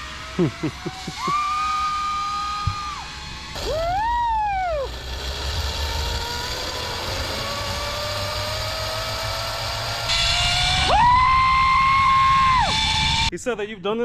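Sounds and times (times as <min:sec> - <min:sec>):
rising and falling tone: 0:00.0 - 0:13.3
zipline pulleys whining on cable: 0:00.0 - 0:13.3.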